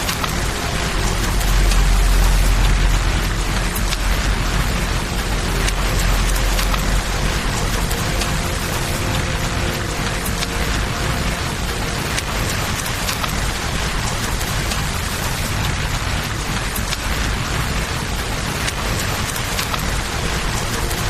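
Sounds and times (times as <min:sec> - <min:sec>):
campfire crackling: 0:00.0 - 0:21.0
flowing river water: 0:00.0 - 0:21.0
steady rain: 0:00.0 - 0:21.0.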